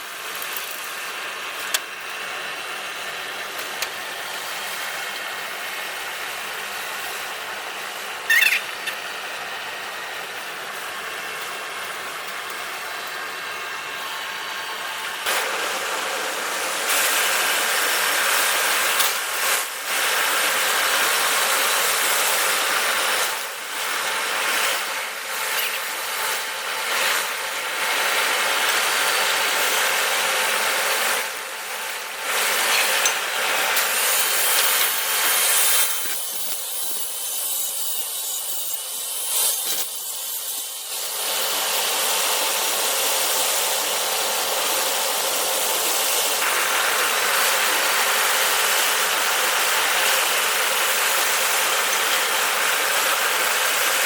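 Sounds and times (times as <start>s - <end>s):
power tool running: 0.0s - 54.0s.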